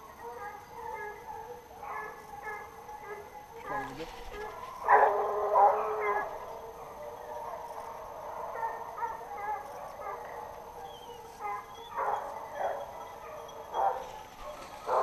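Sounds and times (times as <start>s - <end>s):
dogs baying and barking: 0.0s - 15.0s.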